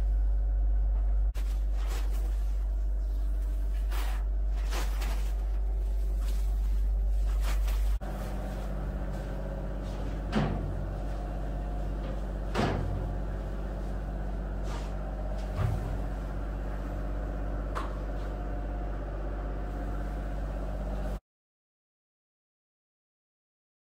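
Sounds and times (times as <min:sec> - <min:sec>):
low machine drone: 0:00.0 - 0:21.2.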